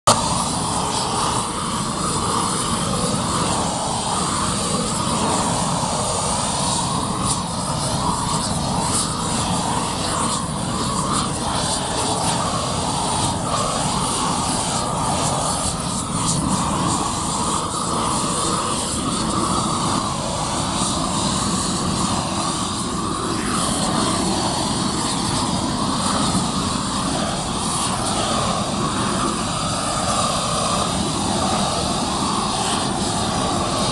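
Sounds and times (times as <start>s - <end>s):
propane torch roaring: 0.0s - 33.9s.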